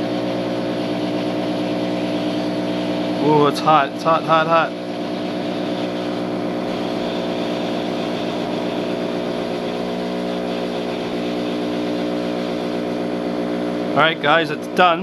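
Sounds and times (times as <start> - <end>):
rush of hot air: 0.0 - 14.0
heat gun fan humming: 0.0 - 15.0.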